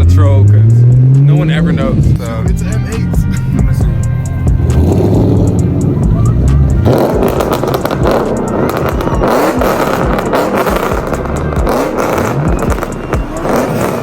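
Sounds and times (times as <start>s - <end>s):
background music: 0.0s - 14.0s
car engine: 0.0s - 14.0s.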